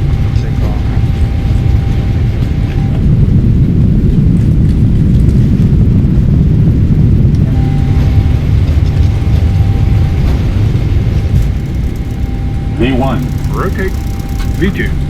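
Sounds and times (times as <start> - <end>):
faint steady tones: 0.0 - 4.4, 6.0 - 15.0
jet engines low rumble: 0.0 - 15.0.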